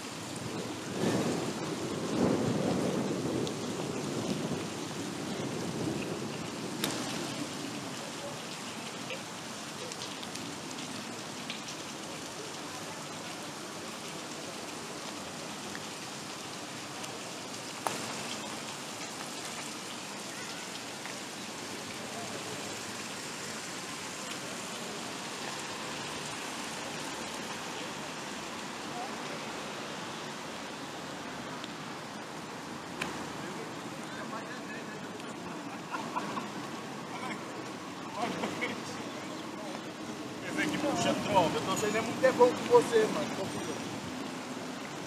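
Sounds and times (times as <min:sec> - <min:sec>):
fountain water splashing: 0:00.0 - 0:45.0.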